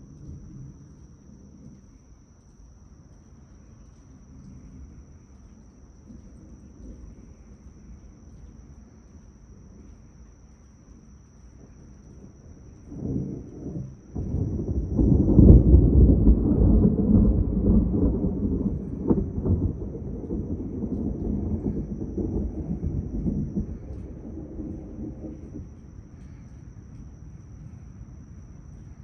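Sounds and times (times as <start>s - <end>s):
crickets chirring: 0.0s - 29.0s
thunder rumbling: 4.2s - 10.3s, 10.9s - 29.0s.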